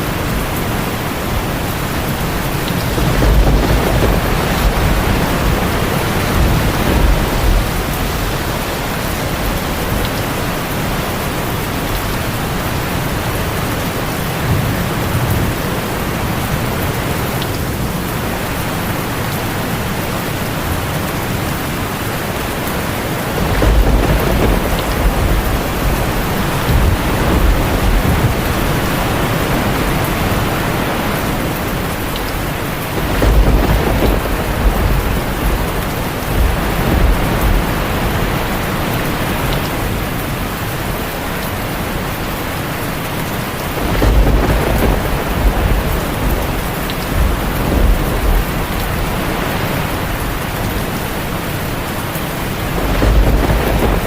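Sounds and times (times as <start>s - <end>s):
heavy rain on a tin roof: 0.0s - 54.0s
rolling thunder rumble: 0.0s - 54.0s.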